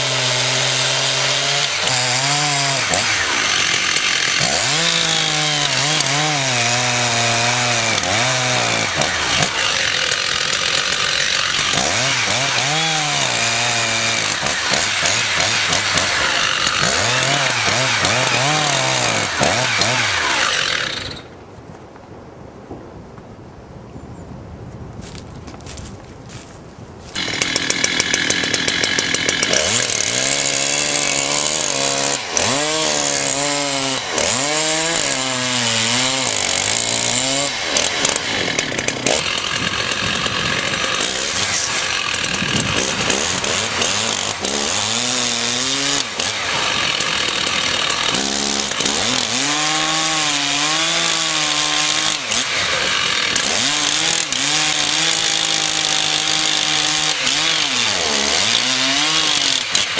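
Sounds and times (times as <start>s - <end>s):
chainsaw cutting wood: 0.0s - 21.3s, 27.0s - 59.9s.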